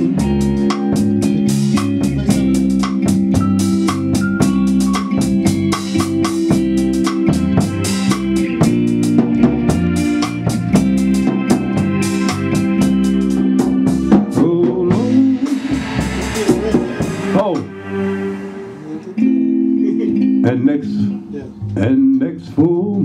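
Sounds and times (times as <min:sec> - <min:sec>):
drums with cymbal strokes: 0:00.0 - 0:19.2
organ sustained chords: 0:00.0 - 0:21.1
electric guitar: 0:00.0 - 0:23.0.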